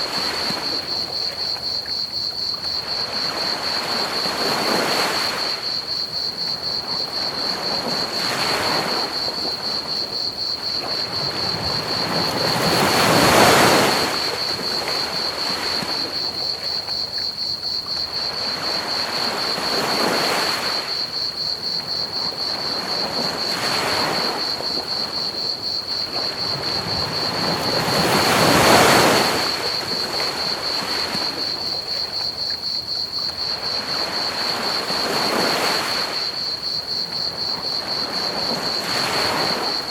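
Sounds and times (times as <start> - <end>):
crickets chirping: 0.0 - 39.9
ocean waves washing onto beach: 0.0 - 39.9.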